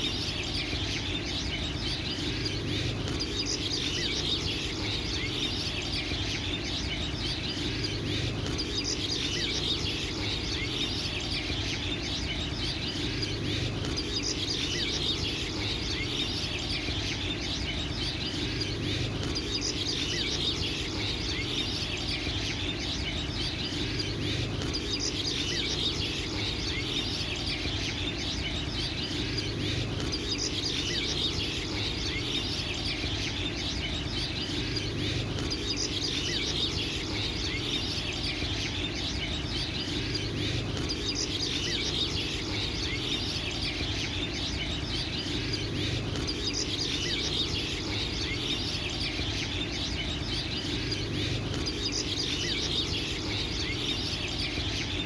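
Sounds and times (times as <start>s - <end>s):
low steady background: 0.0s - 55.0s
small birds chirping: 0.0s - 55.0s.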